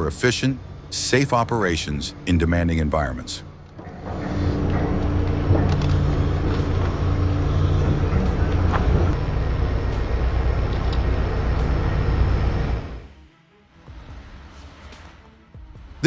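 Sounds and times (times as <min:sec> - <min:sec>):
heavy machine engine drone: 0:00.0 - 0:13.2.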